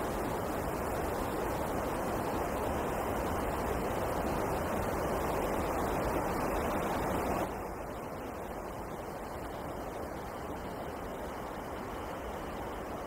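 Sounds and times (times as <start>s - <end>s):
wind blowing through forest: 0.0s - 13.0s.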